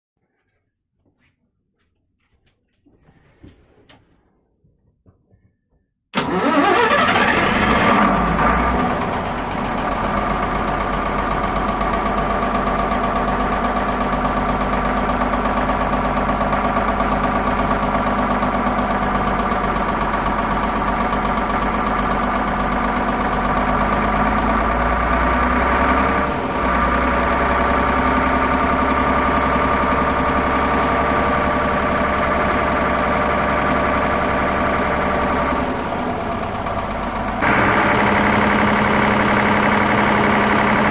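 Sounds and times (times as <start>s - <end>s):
diesel engine starting and idling: 6.2s - 40.9s.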